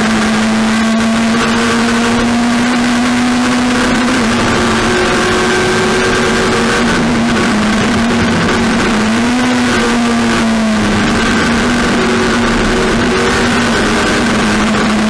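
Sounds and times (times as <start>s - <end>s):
race car engine at high revs: 0.0s - 15.0s
wind and road noise: 0.0s - 15.0s.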